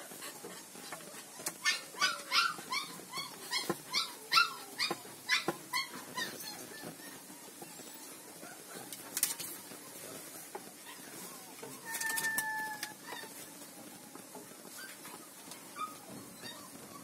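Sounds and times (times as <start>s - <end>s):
puppies whining yelps: 0.0s - 17.0s.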